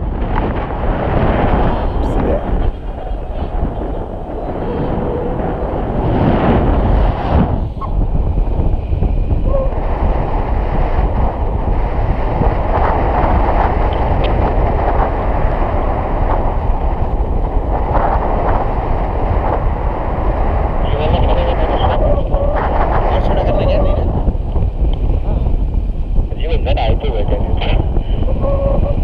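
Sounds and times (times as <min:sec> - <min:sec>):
wind rumbling on microphone: 0:00.0 - 0:29.0.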